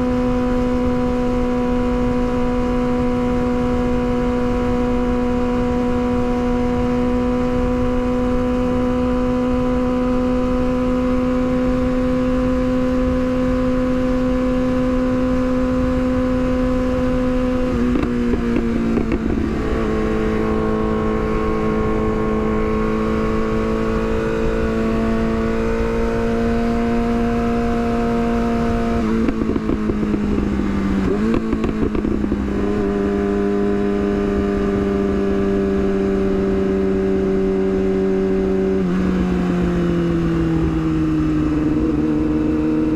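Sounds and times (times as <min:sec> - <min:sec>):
sport bike engine cruising: 0:00.0 - 0:42.9
wind rushing over microphone: 0:00.0 - 0:42.9.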